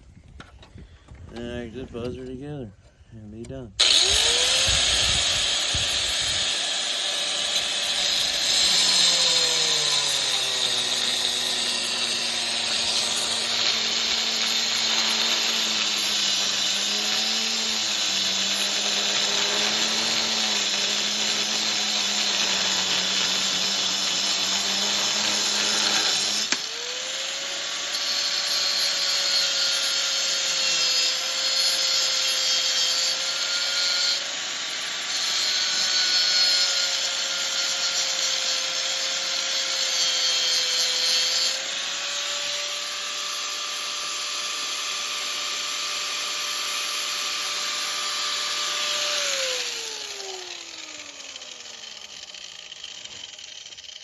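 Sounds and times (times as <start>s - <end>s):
rotary grinder whining: 3.8s - 54.0s.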